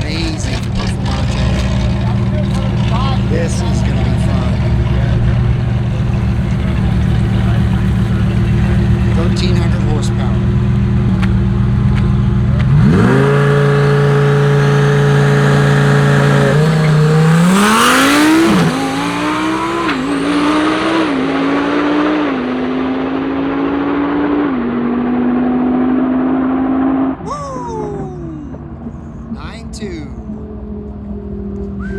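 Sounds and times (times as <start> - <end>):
sports car engine accelerating: 0.0 - 31.9.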